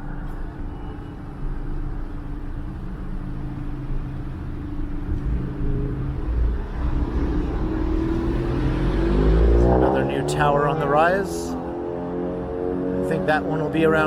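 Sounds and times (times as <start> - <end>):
low traffic rumble: 0.0 - 14.0
vehicle engines running: 0.0 - 14.0.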